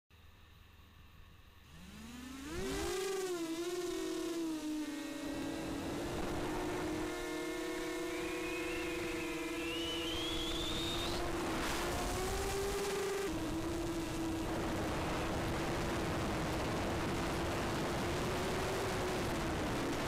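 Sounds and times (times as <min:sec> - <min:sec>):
drone motors high whine: 0:00.2 - 0:20.0.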